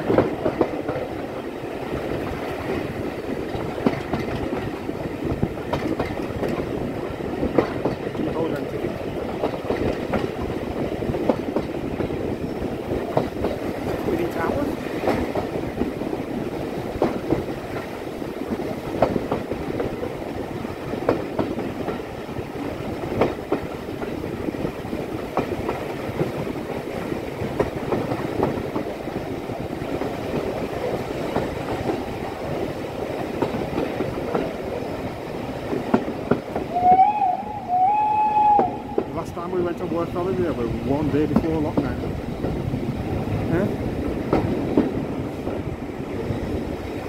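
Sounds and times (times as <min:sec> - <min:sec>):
rail-joint clicks: 0:00.0 - 0:37.4, 0:38.3 - 0:47.0
train carriages rumbling: 0:00.0 - 0:47.0.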